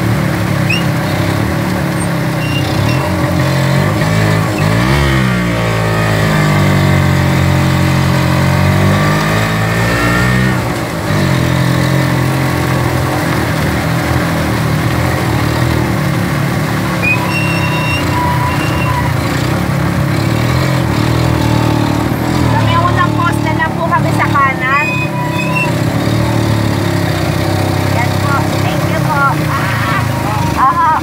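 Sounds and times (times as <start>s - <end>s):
two-stroke engine running: 0.0s - 31.0s.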